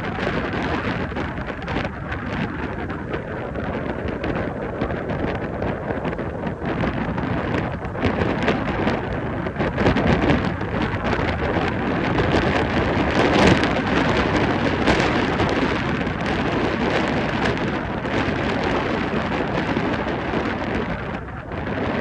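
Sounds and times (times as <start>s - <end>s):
storm wind and rain: 0.0s - 22.0s
wind buffeting microphone: 0.0s - 22.0s.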